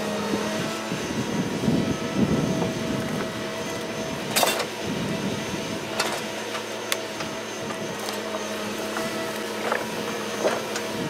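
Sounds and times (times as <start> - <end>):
log loader engine and hydraulics: 0.0 - 11.0.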